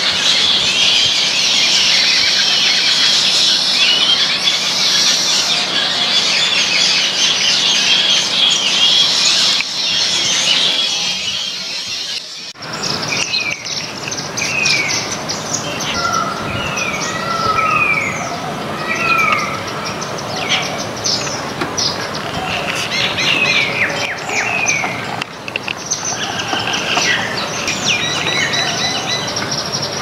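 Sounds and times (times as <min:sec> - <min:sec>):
buzzy bird trill: 0:00.0 - 0:30.0
flock of small birds chirping: 0:00.0 - 0:30.0.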